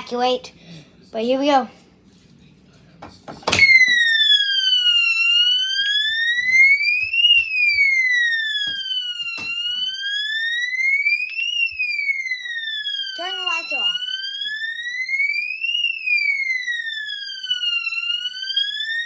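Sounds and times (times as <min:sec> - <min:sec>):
wailing electronic fire alarm siren: 0:03.4 - 0:19.0.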